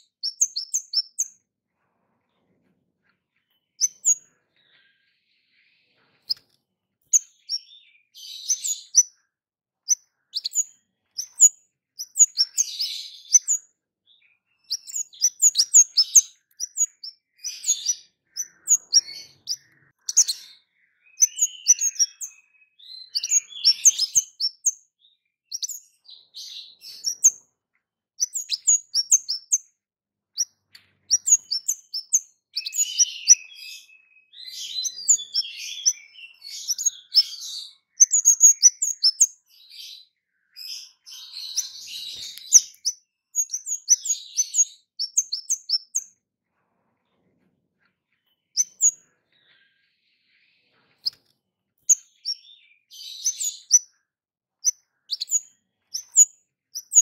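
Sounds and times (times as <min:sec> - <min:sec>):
bird twittering: 0:00.0 - 0:01.4, 0:03.4 - 0:05.1, 0:05.8 - 0:27.4, 0:28.2 - 0:29.6, 0:30.4 - 0:46.1, 0:48.5 - 0:49.1, 0:51.8 - 0:54.0, 0:54.6 - 0:57.0
songbird sharp high chirps: 0:00.0 - 0:01.5, 0:03.3 - 0:27.5, 0:28.2 - 0:46.2, 0:48.1 - 0:57.0.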